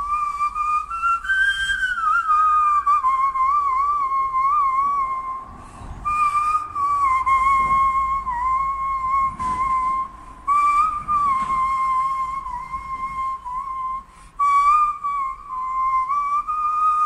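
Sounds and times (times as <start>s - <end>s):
hand whistling tune: 0.0s - 17.0s.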